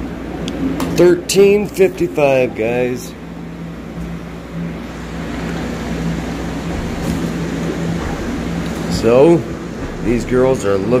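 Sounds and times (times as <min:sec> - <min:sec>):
fan humming with rushing air: 0:00.0 - 0:11.0.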